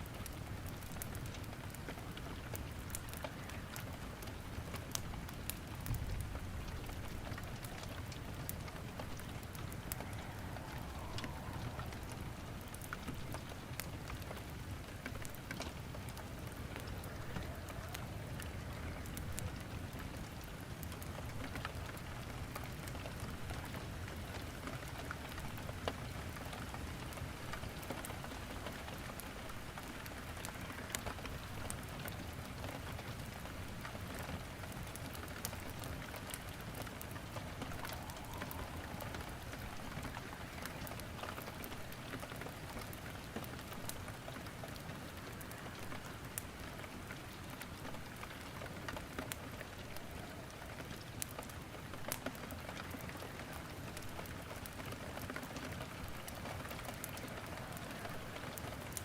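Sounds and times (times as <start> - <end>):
steady rain: 0.0 - 59.0
wood crackling in fireplace: 0.0 - 59.0.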